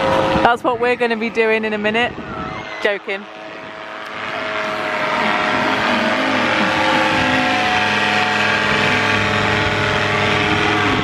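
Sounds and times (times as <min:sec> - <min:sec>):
paramotor engine drone: 0:00.0 - 0:11.0.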